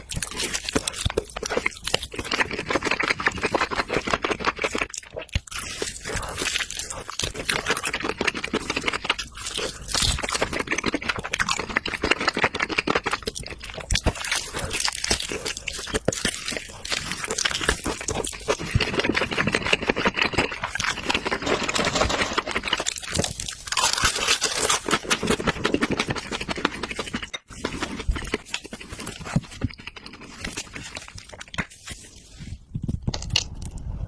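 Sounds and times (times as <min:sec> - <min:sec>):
wet chewing and crunching: 0:00.0 - 0:34.0.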